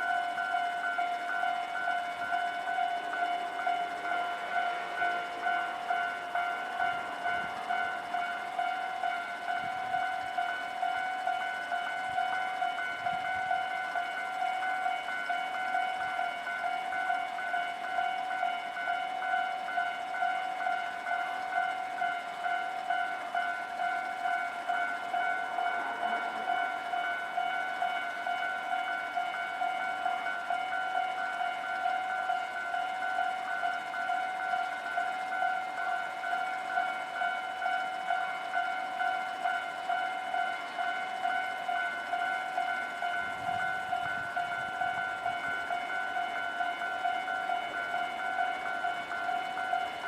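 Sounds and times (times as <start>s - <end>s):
level crossing bell clanging: 0.0s - 50.0s
low train rumble: 0.0s - 50.0s.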